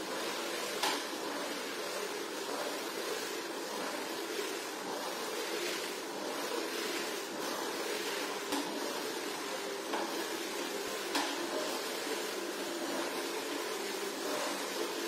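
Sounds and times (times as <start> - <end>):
floor scrubber running: 0.0 - 15.0.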